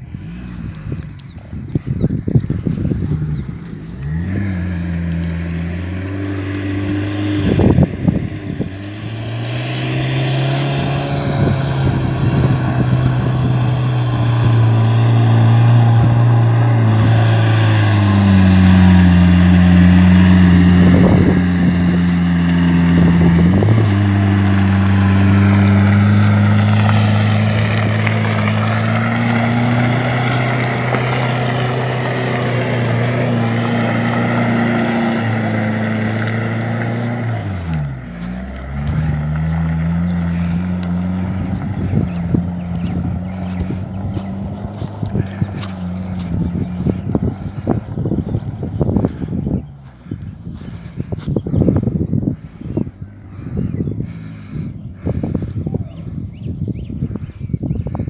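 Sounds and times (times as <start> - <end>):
truck engine under load: 0.0 - 58.0.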